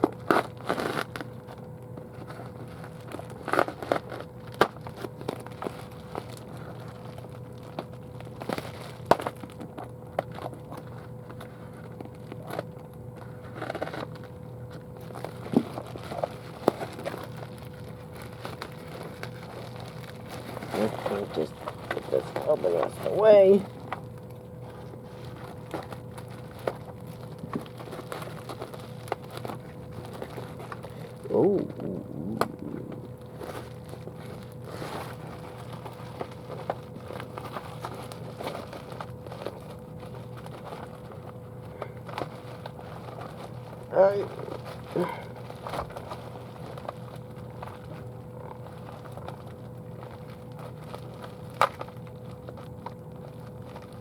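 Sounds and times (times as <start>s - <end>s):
faint steady hum: 0.0s - 54.0s
packaging clicks and crinkles: 0.0s - 54.0s.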